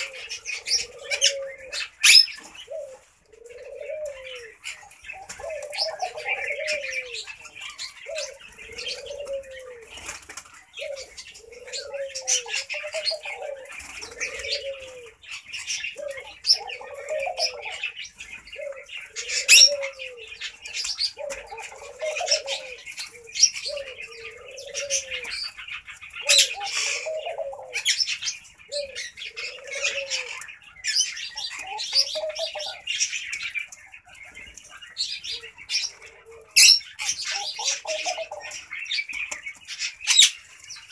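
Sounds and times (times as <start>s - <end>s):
dove cooing: 0.0s - 40.7s
higher bird chirping: 0.0s - 40.9s.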